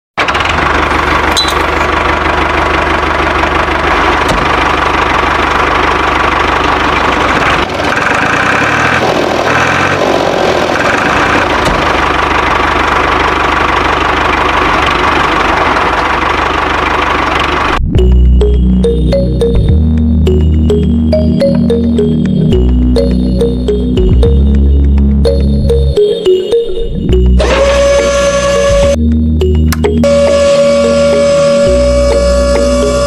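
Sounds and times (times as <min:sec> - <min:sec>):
engine running: 0:00.2 - 0:33.0.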